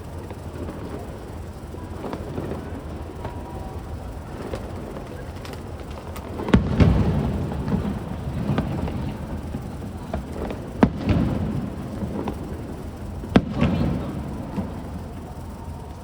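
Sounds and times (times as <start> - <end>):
fireworks bangs: 0.0 - 16.0
low rolling rumble: 0.0 - 16.0
small fireworks pops: 0.0 - 16.0.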